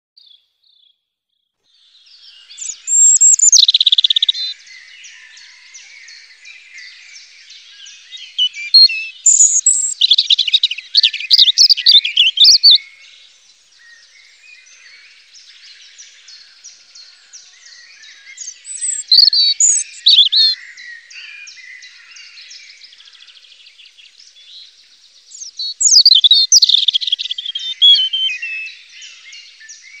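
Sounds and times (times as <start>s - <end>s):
faint bird sounds: 0.2s - 30.0s
robin singing: 1.7s - 30.0s.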